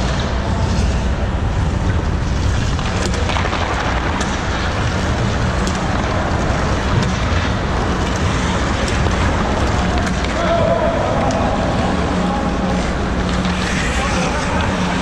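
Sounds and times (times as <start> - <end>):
hockey sticks and puck clicking: 0.0 - 15.0
ice rink rumble and hiss: 0.0 - 15.0.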